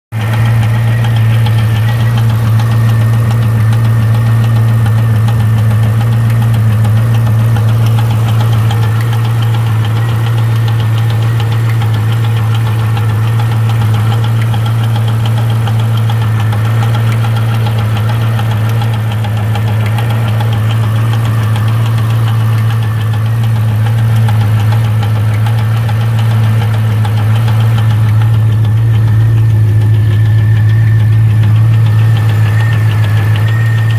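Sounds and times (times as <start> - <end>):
engine knocking ticking noise: 0.1 - 33.9
engine running steadily: 0.1 - 33.9.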